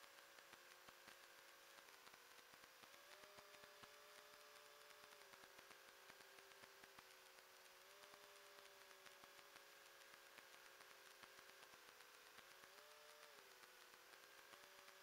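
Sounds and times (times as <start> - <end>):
drone motor whine: 0.0 - 15.0
hiss and crackling static: 0.0 - 15.0.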